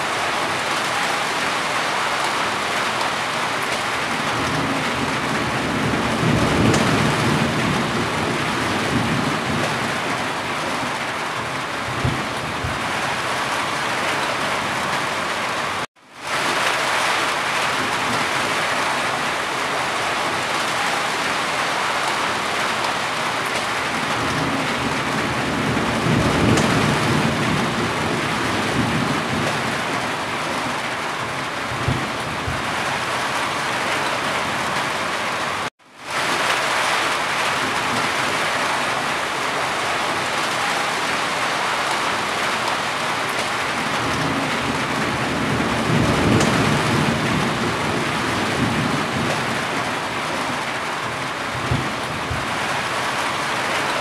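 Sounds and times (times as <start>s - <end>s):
rain on a corrugated roof: 0.0s - 54.0s.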